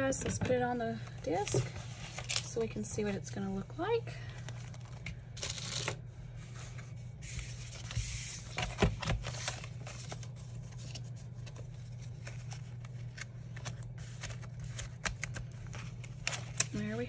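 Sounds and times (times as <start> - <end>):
paper pages rustling: 1.4 - 3.1, 4.4 - 16.9.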